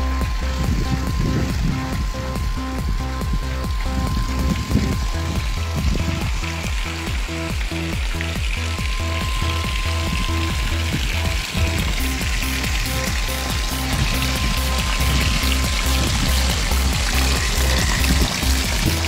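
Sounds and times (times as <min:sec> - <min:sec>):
background music with bass line: 0:00.0 - 0:19.0
waterfall hissing into pool: 0:00.0 - 0:19.0.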